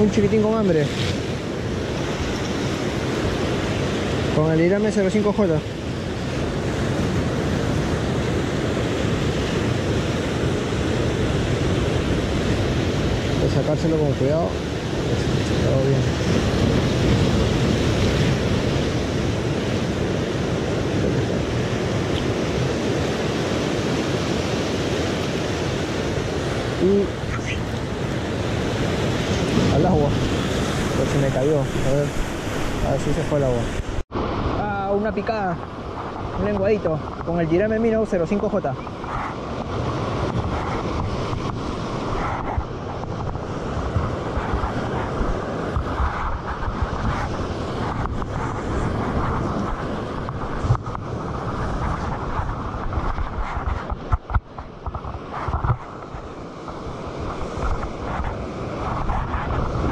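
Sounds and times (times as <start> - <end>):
surf washing over rocks: 0.0 - 59.9
wind on microphone: 0.0 - 59.9.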